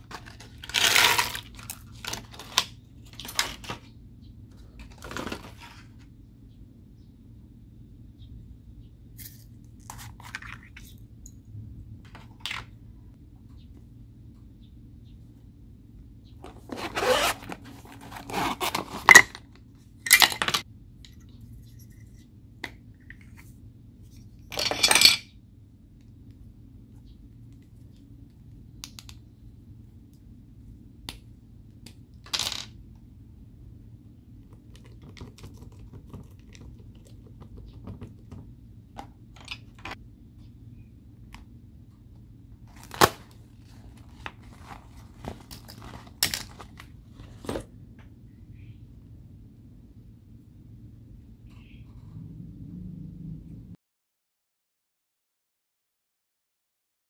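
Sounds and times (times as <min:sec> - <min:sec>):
low steady hum: 0:00.0 - 0:53.8.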